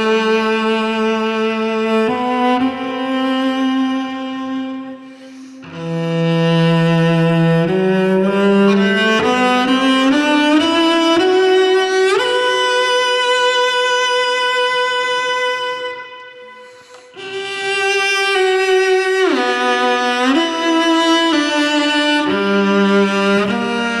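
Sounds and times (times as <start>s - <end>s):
bowed cello melody: 0.0s - 24.0s.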